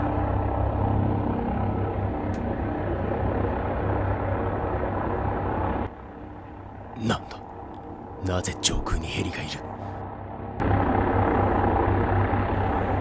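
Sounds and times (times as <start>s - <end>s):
helicopter rotor drone: 0.0s - 13.0s.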